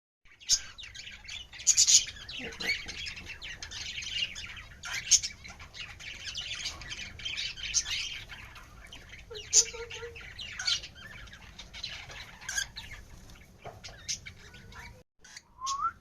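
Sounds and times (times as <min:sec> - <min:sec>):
pet birds chirping and squawking: 0:00.3 - 0:15.7
loud sharp bird calls: 0:00.3 - 0:16.0.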